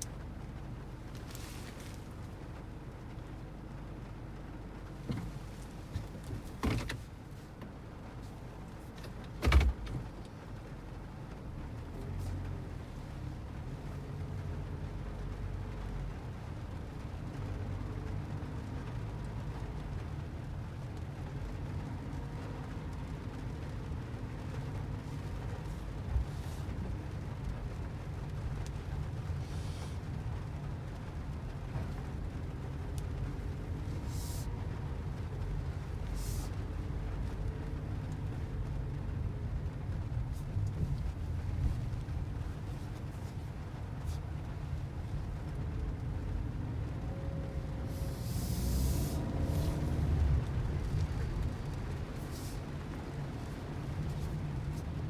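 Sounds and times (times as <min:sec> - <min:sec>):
car road rumble: 0:00.0 - 0:55.0.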